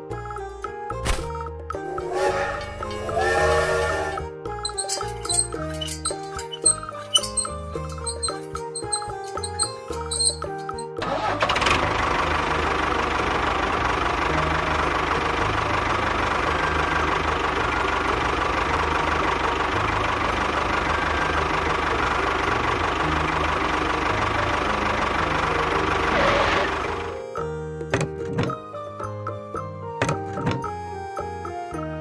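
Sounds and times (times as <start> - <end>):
tractor engine idling: 1.8 - 28.6.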